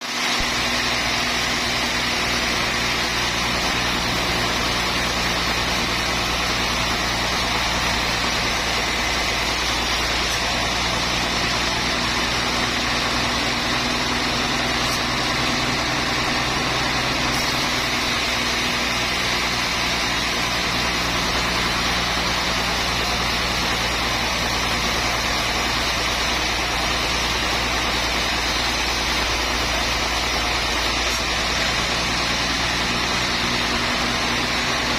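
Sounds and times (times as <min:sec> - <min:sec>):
sawmill machinery hum: 0:00.0 - 0:34.9
broad hiss: 0:00.1 - 0:34.9.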